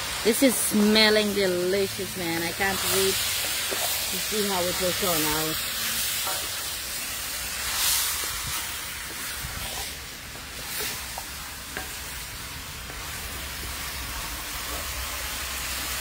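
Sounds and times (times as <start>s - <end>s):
meat sizzling in a pot: 0.0s - 16.0s.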